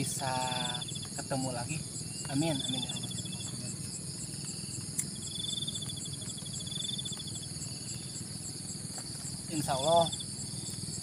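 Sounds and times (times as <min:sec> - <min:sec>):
crickets and insects chirping: 0:00.0 - 0:11.0
fast pulsed insect trill: 0:00.0 - 0:11.0.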